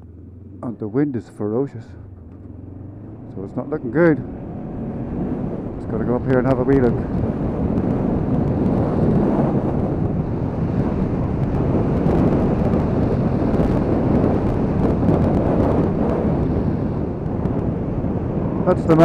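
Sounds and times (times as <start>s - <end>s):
motorcycle engine running: 0.0s - 19.0s
wind buffeting microphone: 2.0s - 19.0s.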